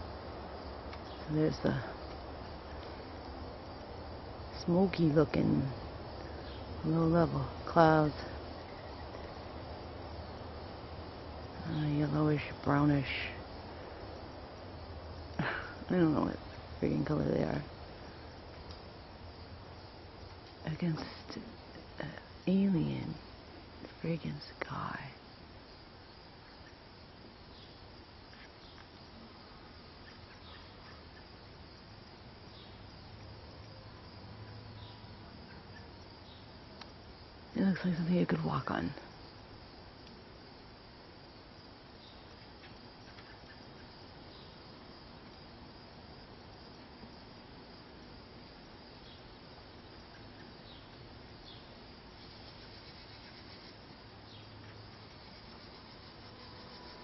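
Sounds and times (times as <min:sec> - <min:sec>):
insects chirping: 0:00.0 - 0:57.0
steady hiss: 0:00.0 - 0:57.0.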